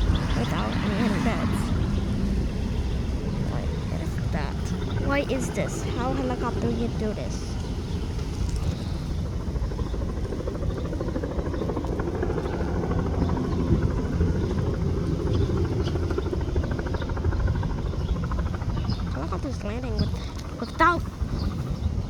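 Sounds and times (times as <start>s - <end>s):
helicopter rotor chop and turbine: 0.0s - 22.0s.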